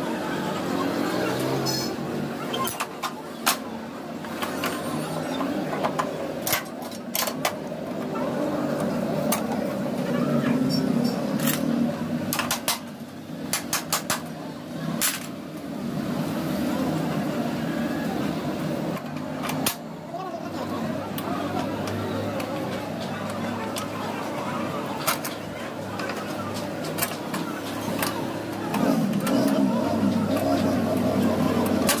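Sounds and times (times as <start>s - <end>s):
murmur of background voices: 0.0s - 32.0s.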